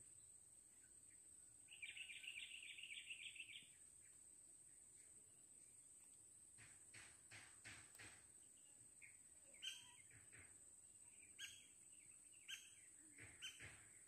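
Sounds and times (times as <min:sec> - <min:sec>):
bird chirping faintly: 0:00.0 - 0:06.0, 0:08.4 - 0:14.0.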